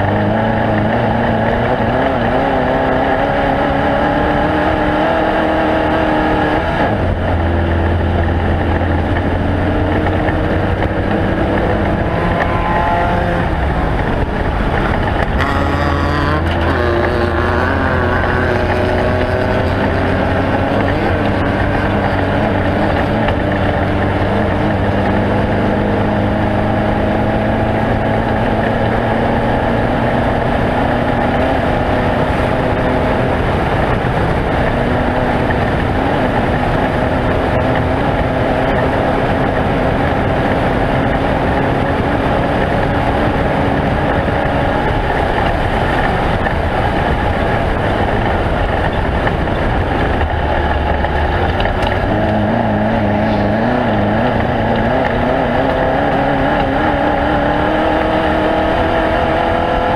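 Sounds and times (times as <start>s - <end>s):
terrain noise: 0.0s - 59.9s
vehicle engine running hard: 0.0s - 59.9s
wind noise: 0.0s - 59.9s.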